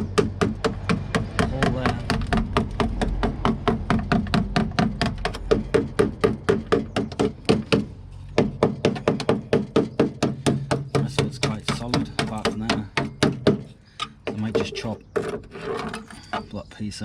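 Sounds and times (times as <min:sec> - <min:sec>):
hammer tapping on steel bodywork: 0:00.0 - 0:14.8.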